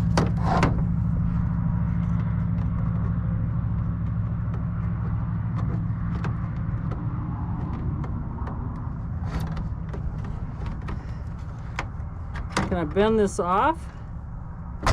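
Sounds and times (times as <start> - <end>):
scraping rattle: 0.0 - 12.9
steady low hum: 0.0 - 14.9.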